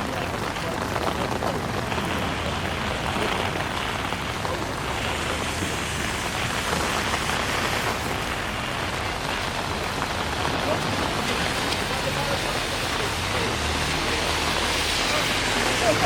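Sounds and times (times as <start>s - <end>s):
dense patter of raindrops: 0.0s - 16.0s
heavy rain hissing: 0.0s - 16.0s.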